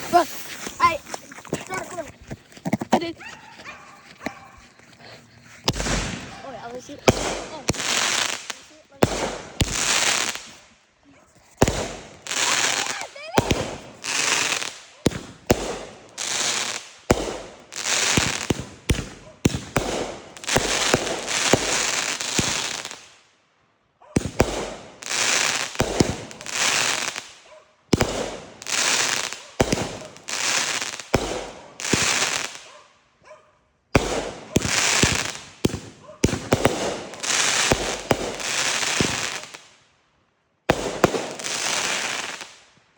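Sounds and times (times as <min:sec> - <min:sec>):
fireworks hissing crackle: 0:00.0 - 0:03.2, 0:04.0 - 0:23.2, 0:24.2 - 0:32.7, 0:34.0 - 0:39.8, 0:40.7 - 0:42.8
fireworks bangs: 0:00.0 - 0:10.8, 0:11.4 - 0:23.0, 0:24.2 - 0:32.7, 0:34.0 - 0:39.7, 0:40.7 - 0:42.6.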